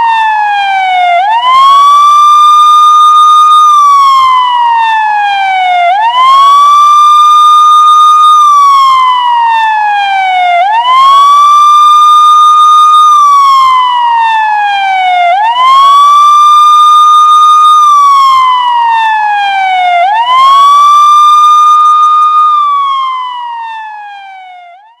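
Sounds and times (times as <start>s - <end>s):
wailing siren ringtone: 0.0s - 25.0s.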